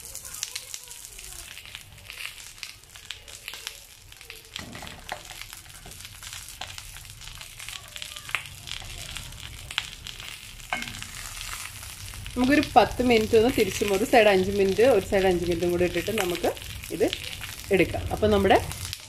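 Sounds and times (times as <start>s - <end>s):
oil sizzling and crackling: 0.0s - 19.0s.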